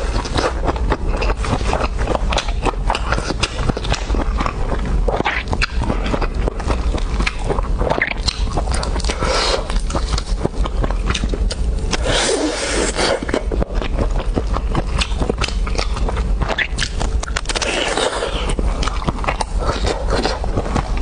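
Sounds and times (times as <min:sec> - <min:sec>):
steady low hum: 0:00.0 - 0:21.0
wet crunchy chewing: 0:00.0 - 0:21.0.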